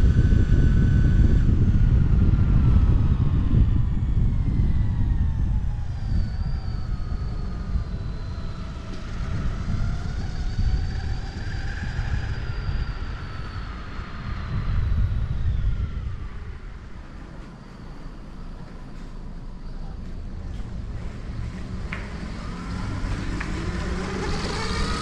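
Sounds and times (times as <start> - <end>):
faint whine: 0.0 - 25.0
wind buffeting microphone: 0.0 - 25.0.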